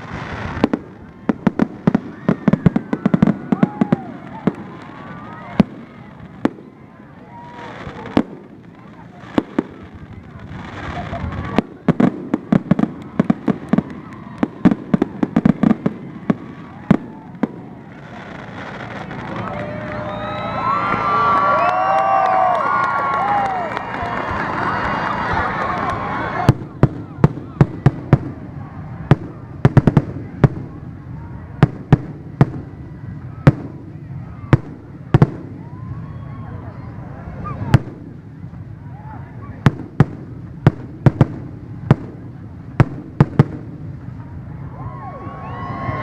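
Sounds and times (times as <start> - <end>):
fireworks bangs: 0.0 - 21.2, 22.0 - 36.1, 37.0 - 44.6.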